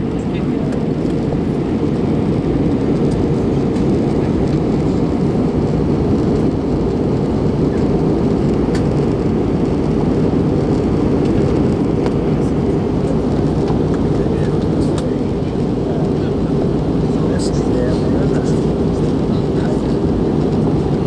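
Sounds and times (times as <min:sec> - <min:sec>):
jet engine cabin roar: 0:00.0 - 0:21.0.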